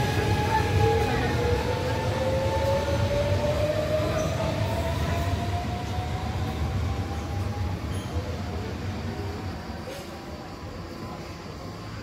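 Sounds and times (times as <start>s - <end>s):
rumble of train running gear: 0.0s - 12.0s.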